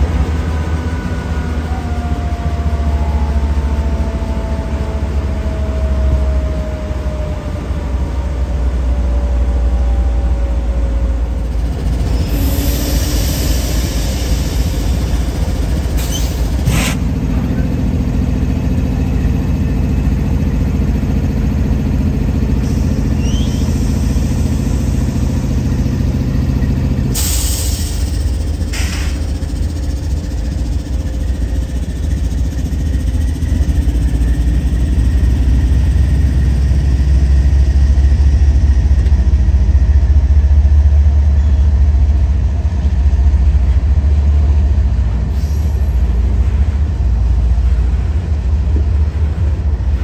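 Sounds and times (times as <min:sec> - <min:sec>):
heavy vehicle engine rumbling: 0:00.0 - 0:50.0.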